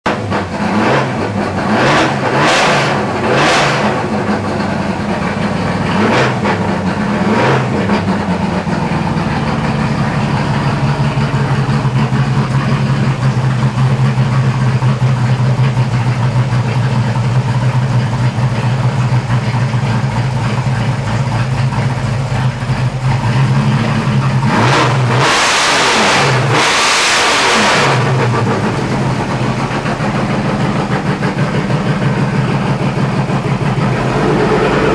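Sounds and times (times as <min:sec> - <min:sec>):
engine revving: 0:00.1 - 0:16.1, 0:23.0 - 0:34.9
car engine idling: 0:00.1 - 0:34.9.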